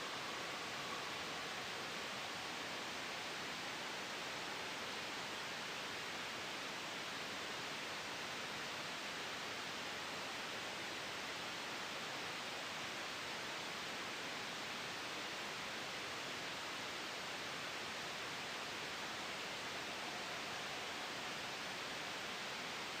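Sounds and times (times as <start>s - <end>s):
gentle wind: 0.0s - 23.0s
white noise hiss: 0.0s - 23.0s.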